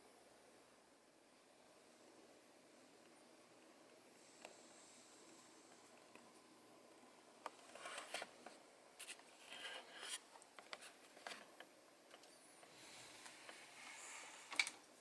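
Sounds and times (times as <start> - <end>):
faint clicks and rustles: 2.9 - 15.0.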